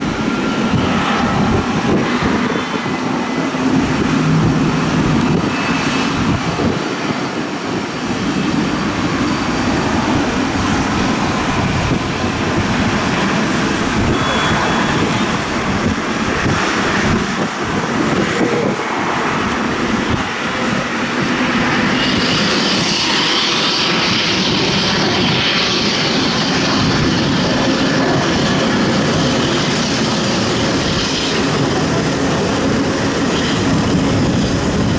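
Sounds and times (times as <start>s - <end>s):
jet engine roar: 0.0s - 34.9s.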